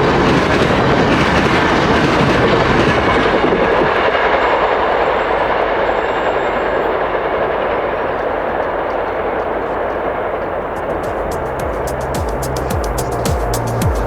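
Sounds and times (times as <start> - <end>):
railcar wheels rumbling on rail: 0.0 - 14.0.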